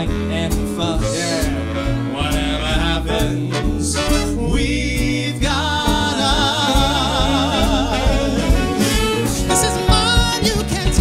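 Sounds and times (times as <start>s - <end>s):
big band playing swing: 0.0s - 11.0s.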